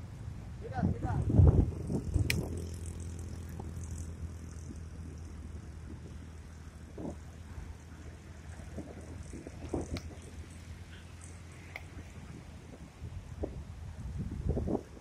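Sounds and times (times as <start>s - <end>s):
quad bike engine driving: 0.0s - 15.0s.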